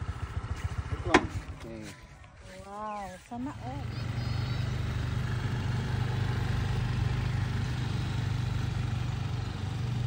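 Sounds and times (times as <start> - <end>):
scooter engine droning: 0.0 - 10.0.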